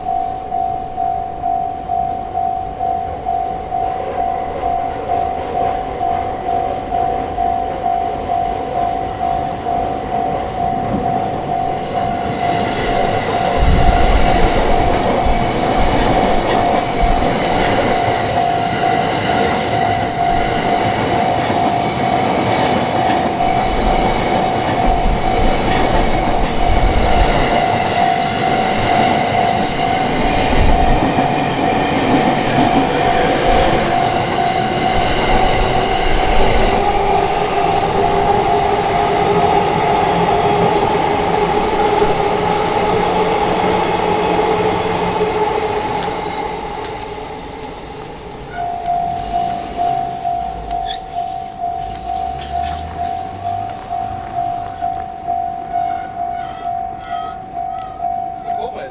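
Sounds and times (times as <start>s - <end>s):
level crossing bell ringing: 0.0s - 40.7s, 48.5s - 58.9s
train wheels clattering: 5.2s - 56.0s.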